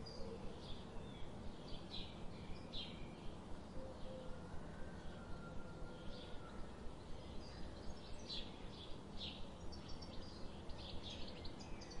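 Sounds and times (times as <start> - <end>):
low background noise: 0.0 - 12.0
small songbirds chirping: 0.0 - 12.0.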